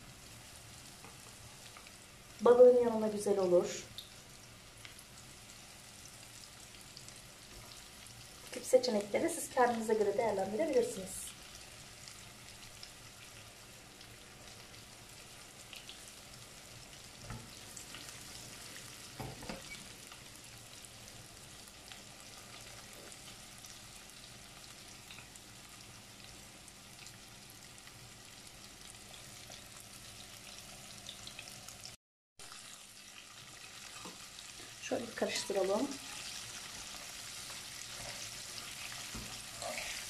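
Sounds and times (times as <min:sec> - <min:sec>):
oil sizzling in deep fryer: 0:00.0 - 0:40.0.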